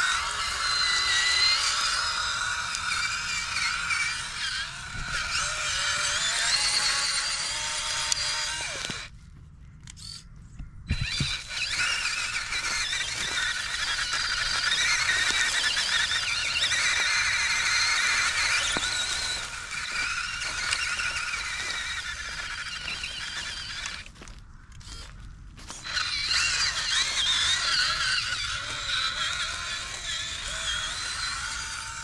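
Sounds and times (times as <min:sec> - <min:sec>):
electric motor whining: 0:00.0 - 0:09.2, 0:10.9 - 0:32.0.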